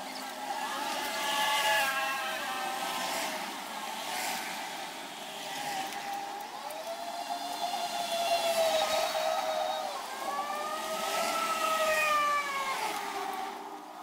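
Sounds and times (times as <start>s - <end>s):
vehicle engine whine: 0.0s - 14.0s.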